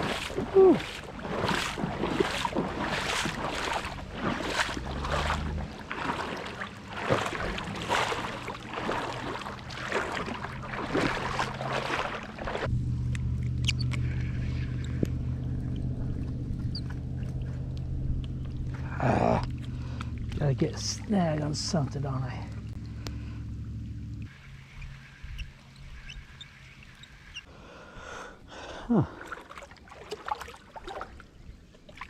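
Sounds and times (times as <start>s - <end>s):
footsteps wading through water: 0.0s - 12.7s, 13.4s - 27.5s, 28.4s - 32.0s
steady low hum: 0.0s - 28.7s.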